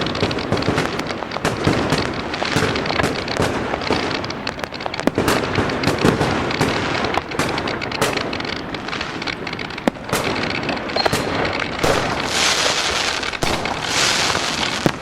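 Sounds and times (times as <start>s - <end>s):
fireworks barrage: 0.0s - 15.0s.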